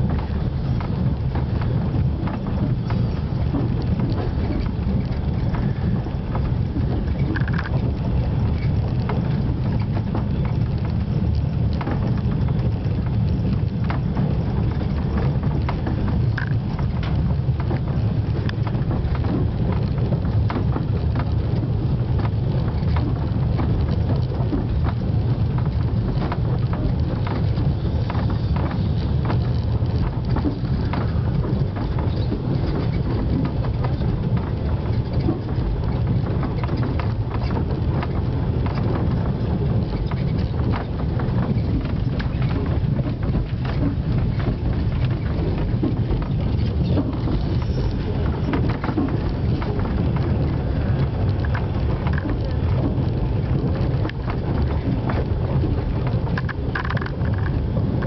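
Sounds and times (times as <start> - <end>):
light clicking and rattling: 0.0 - 58.0
train rumbling: 0.0 - 58.0.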